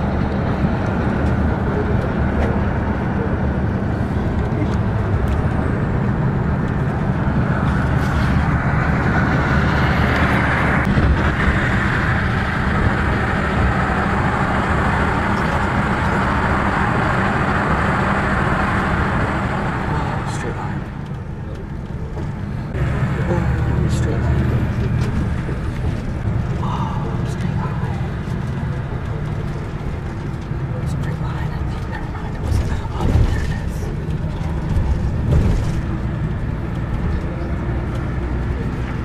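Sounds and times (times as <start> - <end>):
bus engine drone: 0.0 - 39.0
road rush: 0.0 - 39.0.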